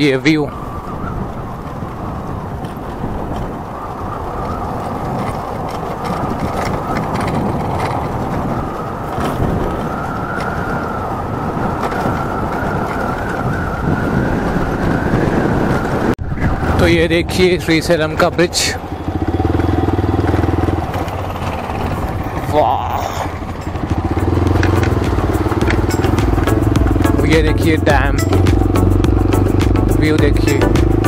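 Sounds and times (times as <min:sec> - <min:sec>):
motorcycle engine whine: 0:00.0 - 0:31.0
wind rush on microphone: 0:00.0 - 0:31.0.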